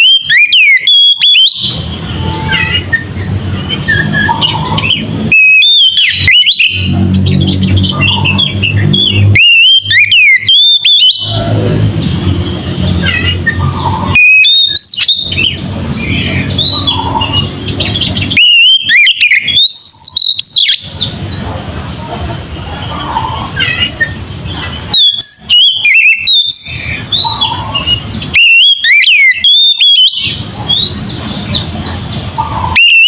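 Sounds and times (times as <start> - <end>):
bird singing whistled notes: 0.0 - 21.5, 23.3 - 33.0.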